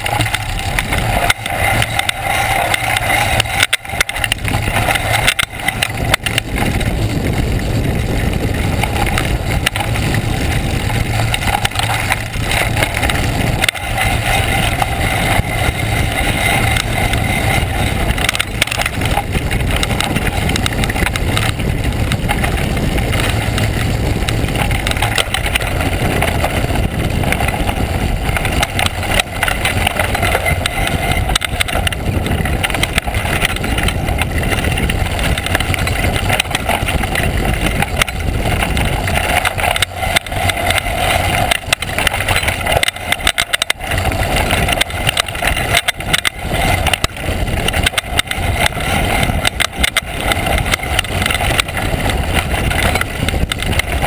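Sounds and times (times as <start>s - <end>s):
bike knocking and rattling: 0.0s - 54.0s
wind rush on microphone: 0.0s - 54.0s.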